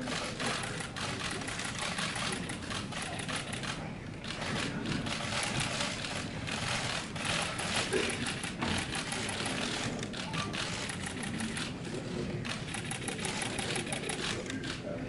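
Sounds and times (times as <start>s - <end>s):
camera shutters clicking: 0.1s - 11.7s, 12.4s - 14.8s.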